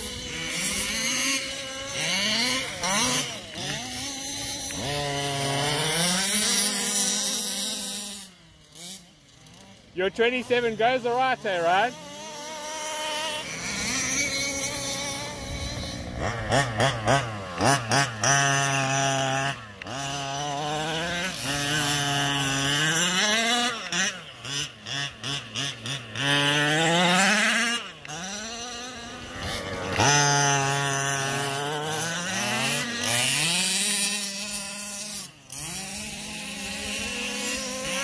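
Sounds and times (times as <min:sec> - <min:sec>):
rc car engine revving: 0:00.0 - 0:38.0.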